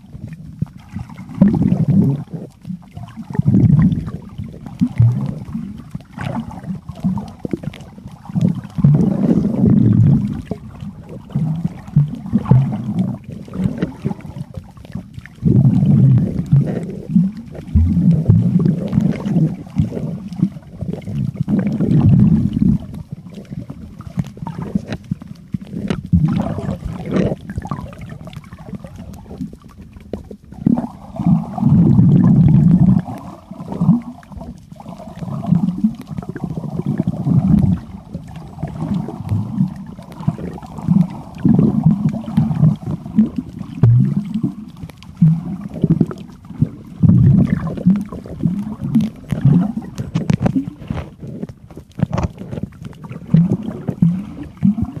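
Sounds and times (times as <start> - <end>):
underwater rumbling and sloshing: 0.0 - 55.0.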